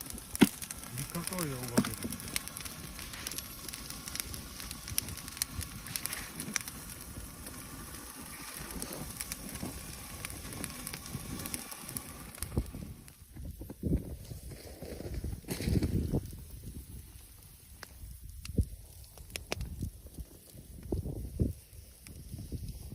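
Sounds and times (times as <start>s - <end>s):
bonfire crackling and popping: 0.0s - 22.9s.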